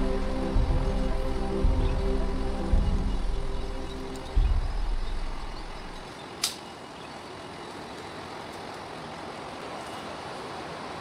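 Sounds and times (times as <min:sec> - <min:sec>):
outdoor hiss-like hum: 0:00.0 - 0:11.0.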